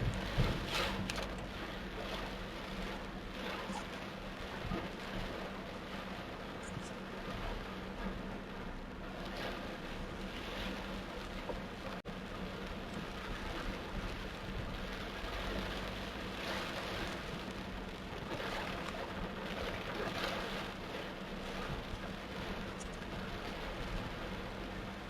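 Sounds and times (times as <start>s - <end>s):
low vehicle hum: 0.0s - 25.0s
torrential rain pouring: 0.0s - 25.0s.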